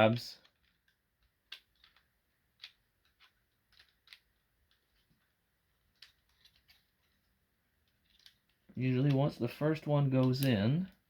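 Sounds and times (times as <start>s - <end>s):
plastic toy parts clicking: 0.4s - 9.4s, 10.2s - 11.0s.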